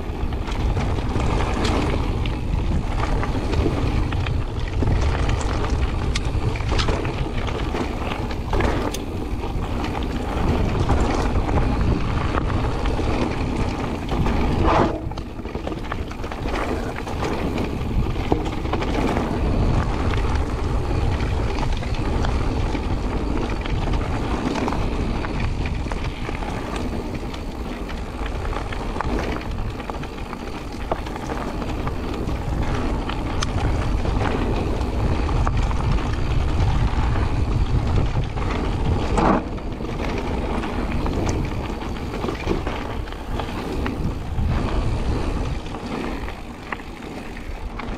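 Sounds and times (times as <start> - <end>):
bike rattling over bumps: 0.0 - 47.9
tyres crunching on gravel: 0.0 - 47.9
wind rumbling on microphone: 0.0 - 47.9.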